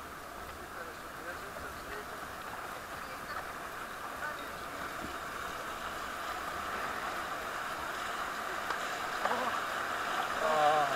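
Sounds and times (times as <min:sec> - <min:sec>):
river rapids rushing: 0:00.0 - 0:10.9.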